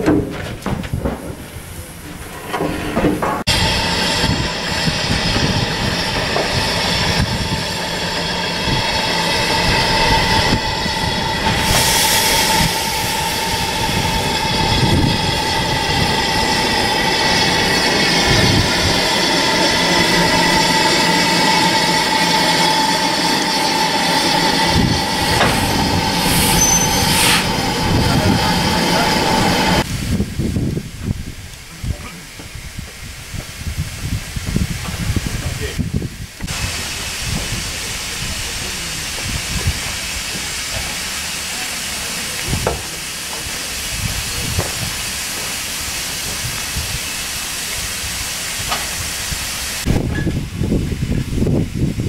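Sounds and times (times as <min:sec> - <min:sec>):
steam locomotive running: 0:00.0 - 0:52.0
steam hissing: 0:01.3 - 0:30.7, 0:31.8 - 0:52.0.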